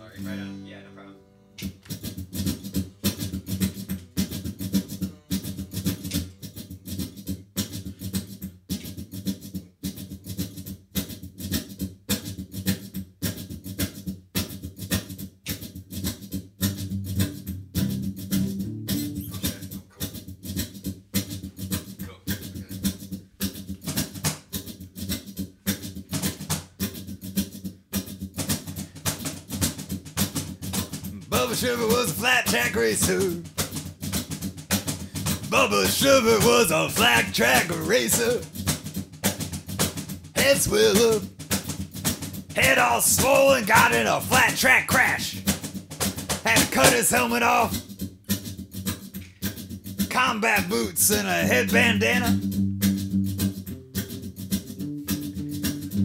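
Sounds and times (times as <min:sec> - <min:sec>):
steady drum beat: 0:01.7 - 0:48.8, 0:49.4 - 0:56.0.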